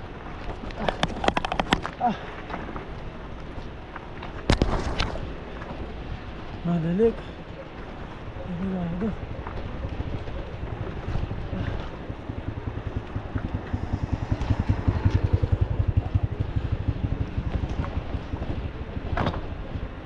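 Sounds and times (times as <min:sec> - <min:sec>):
bicycle rattling on rocky trail: 0:00.0 - 0:20.0
wind buffeting microphone: 0:00.0 - 0:20.0.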